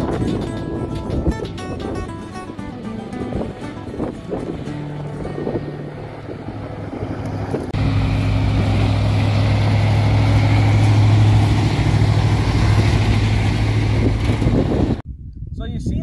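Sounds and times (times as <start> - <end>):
truck engine droning under load: 0.0 - 15.0.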